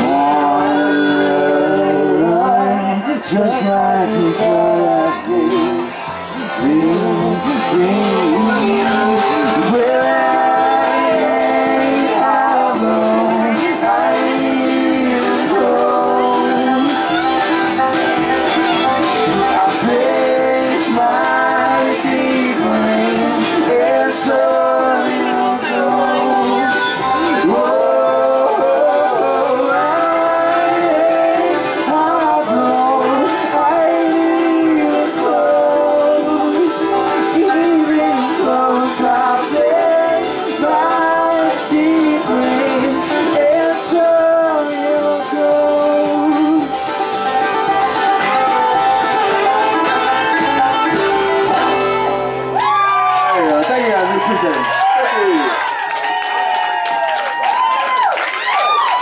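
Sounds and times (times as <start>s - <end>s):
man singing lead vocals: 0.0s - 47.4s, 48.0s - 54.6s
acoustic string band playing: 0.0s - 59.0s.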